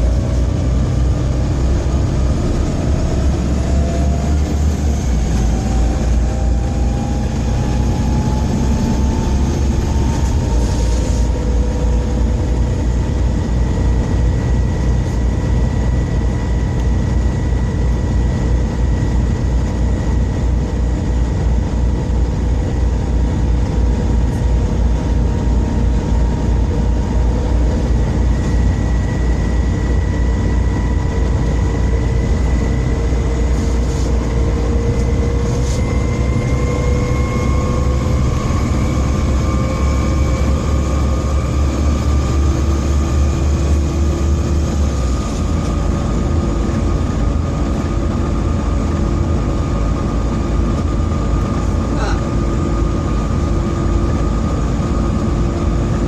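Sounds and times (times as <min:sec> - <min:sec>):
bus diesel engine rumbling: 0:00.0 - 0:56.0
rising driveline whine: 0:00.0 - 0:56.0.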